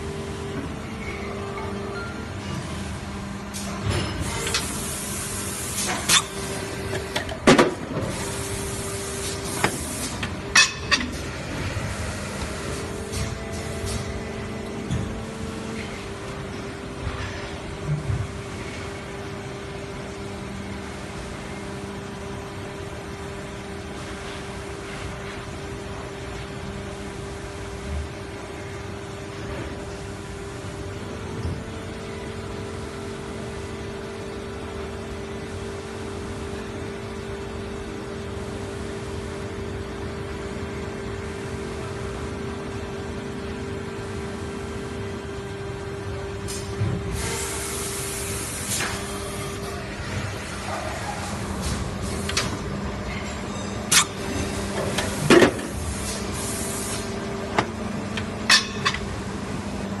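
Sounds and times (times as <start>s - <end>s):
machine mechanical hum: 0.0s - 60.0s.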